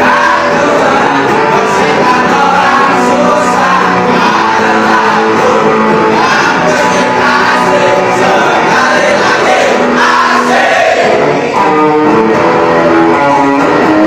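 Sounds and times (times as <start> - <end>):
person singing: 0.0 - 12.2
electric guitar: 0.0 - 14.0.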